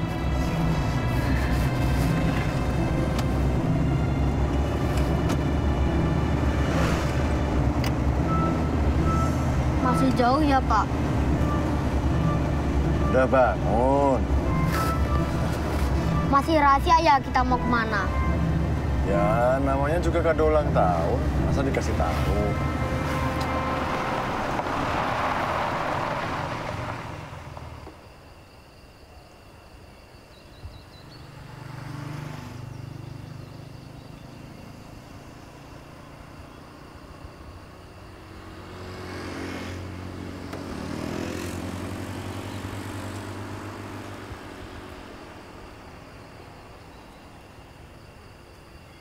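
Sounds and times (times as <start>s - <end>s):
motorcycles passing: 0.0s - 28.0s, 30.9s - 48.0s
vehicle noise: 0.0s - 49.0s.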